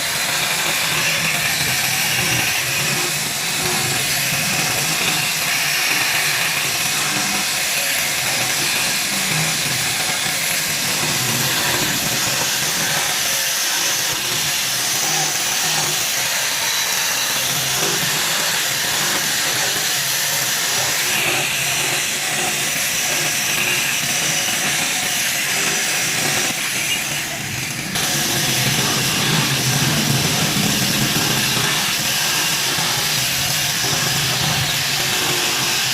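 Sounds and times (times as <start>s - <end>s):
power tool working wood: 0.0s - 35.9s.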